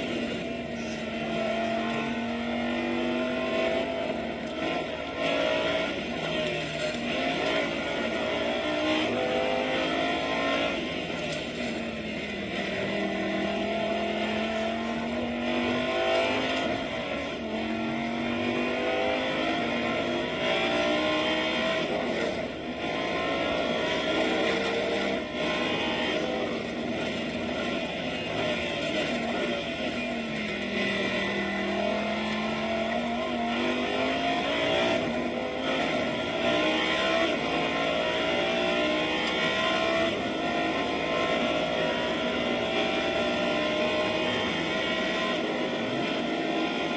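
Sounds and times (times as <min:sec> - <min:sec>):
race car engine under power: 0:00.0 - 0:46.9.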